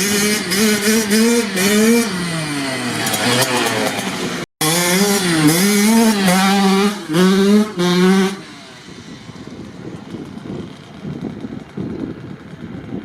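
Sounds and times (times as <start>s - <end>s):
faint wind: 0.0s - 13.0s
two-stroke engine revving: 0.0s - 13.0s.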